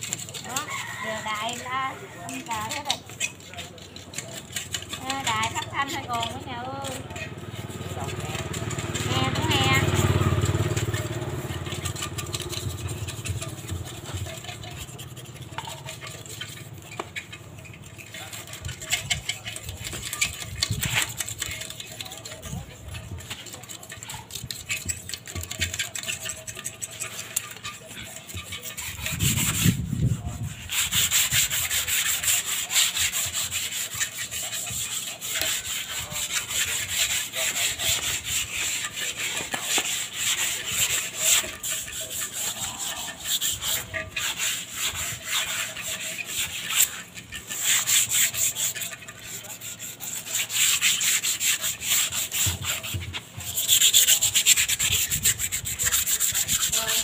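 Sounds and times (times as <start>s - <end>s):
hand scraping cement pots: 0.0s - 57.0s.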